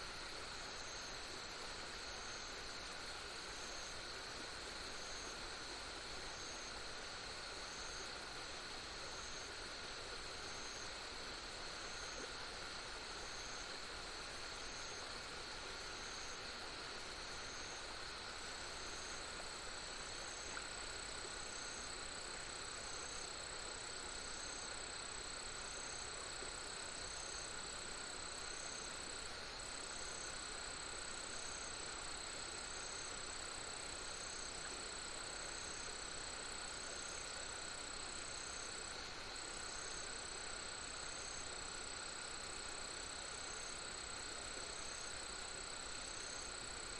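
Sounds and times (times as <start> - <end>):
crickets trilling: 0.0 - 46.9
faint steady hiss: 0.0 - 46.9
short insect chirp: 0.0 - 46.9.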